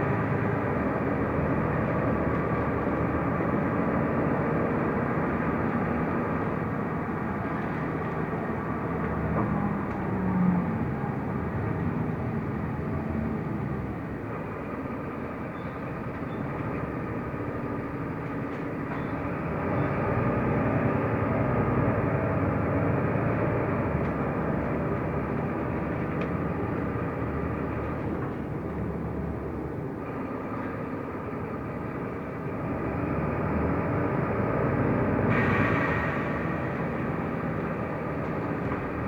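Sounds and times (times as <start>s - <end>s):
bus engine and road noise: 0.0s - 39.0s.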